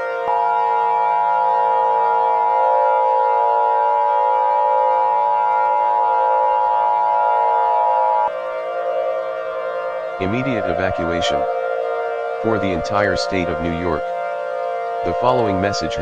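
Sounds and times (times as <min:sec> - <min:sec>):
steady electronic alarm tones: 0:00.0 - 0:16.0.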